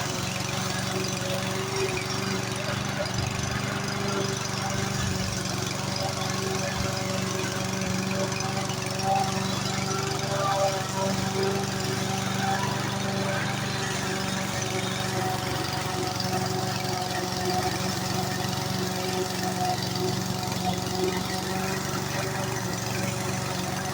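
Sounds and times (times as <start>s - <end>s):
lawn mower engine running: 0.0s - 23.9s.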